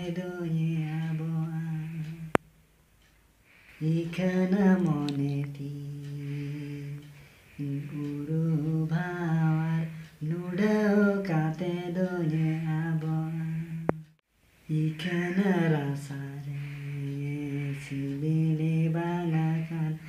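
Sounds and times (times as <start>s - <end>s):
man singing unaccompanied: 0.0s - 2.4s, 3.6s - 20.0s.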